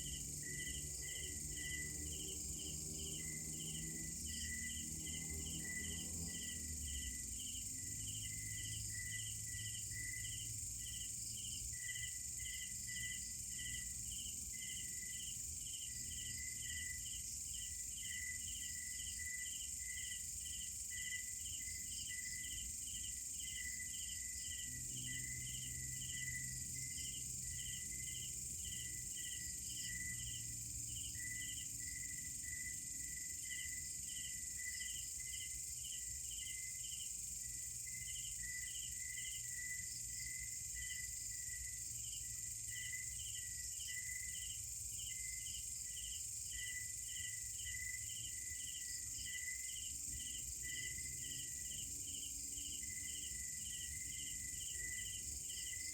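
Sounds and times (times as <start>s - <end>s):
cricket chirps: 0.0s - 55.9s
insects droning: 0.0s - 55.9s.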